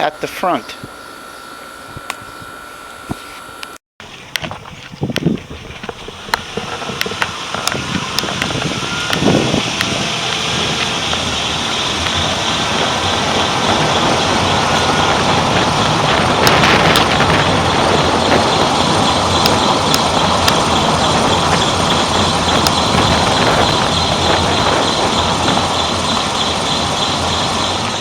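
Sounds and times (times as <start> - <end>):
tyre and wind noise: 4.0 - 28.0.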